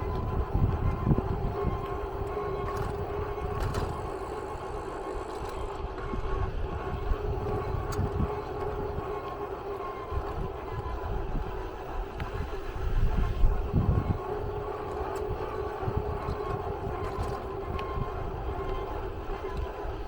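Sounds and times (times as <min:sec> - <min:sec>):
vehicle engine drone: 0:00.0 - 0:20.0.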